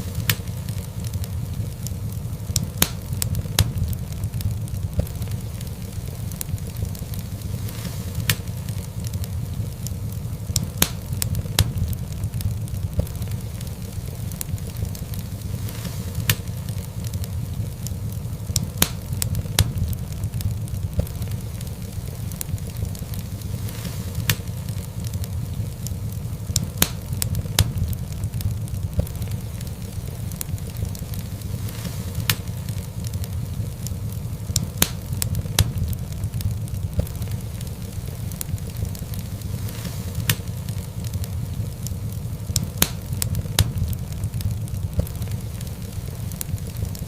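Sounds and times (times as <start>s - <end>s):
fire popping: 0.0s - 47.0s
low rumble of flames: 0.0s - 47.0s
wood fire crackling: 0.0s - 47.0s.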